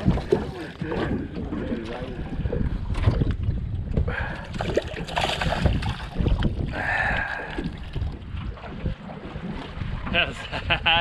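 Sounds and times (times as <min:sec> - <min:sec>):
water splashing and sloshing: 0:00.0 - 0:11.0
wind buffeting microphone: 0:00.0 - 0:11.0.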